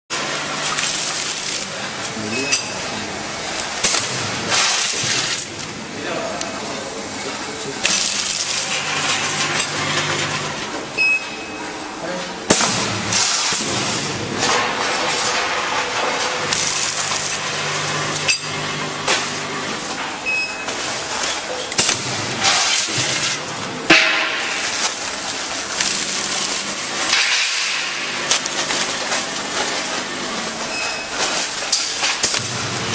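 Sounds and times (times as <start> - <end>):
machine hum: 0.1 - 32.9
packaging machine clacks: 0.4 - 5.7, 7.8 - 11.4, 12.6 - 23.5, 24.4 - 32.9.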